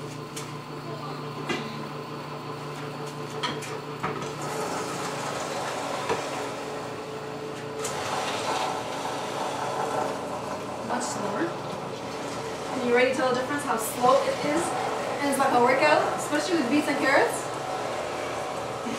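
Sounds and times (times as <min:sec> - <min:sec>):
juicer motor hum: 0:00.0 - 0:18.9.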